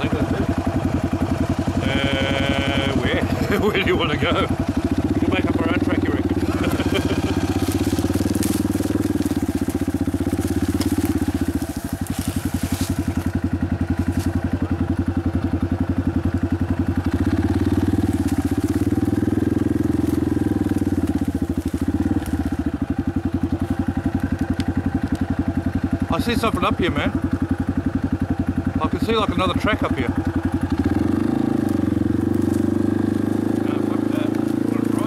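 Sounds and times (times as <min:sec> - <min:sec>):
dirt bike engine at low revs: 0:00.0 - 0:35.0.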